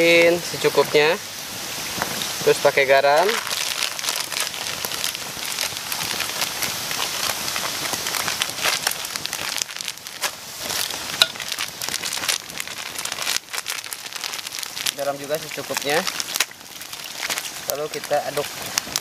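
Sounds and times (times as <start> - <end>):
eggs frying hiss: 0.0 - 19.0
loud fire crack: 0.0 - 19.0
wood fire crackling and popping: 0.0 - 19.0.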